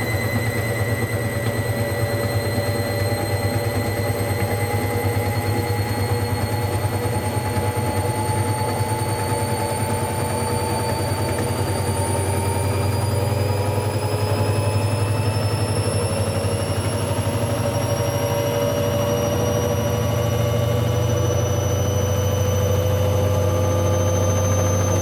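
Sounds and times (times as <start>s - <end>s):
motor whine rising in pitch: 0.0s - 25.0s.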